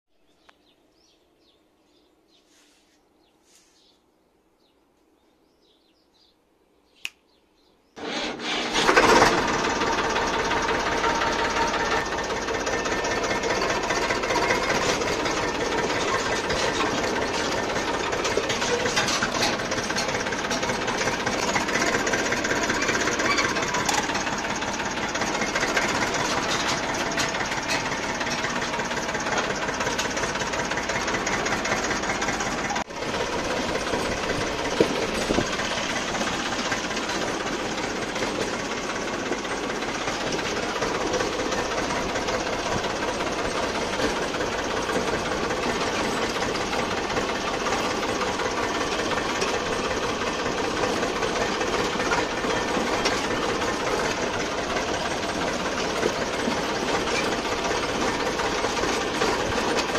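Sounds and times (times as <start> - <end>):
tractor diesel engine: 8.0 - 59.9.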